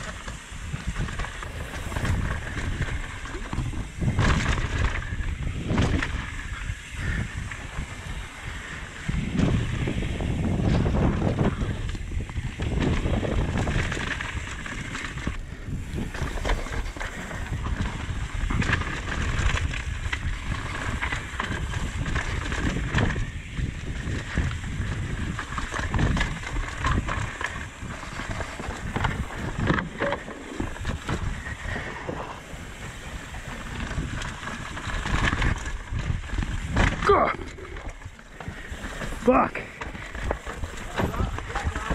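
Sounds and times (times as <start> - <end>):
bike knocks and rattles: 0.0 - 41.9
tyres rolling over dirt and rock: 0.0 - 41.9
wind rushing over microphone: 0.0 - 41.9.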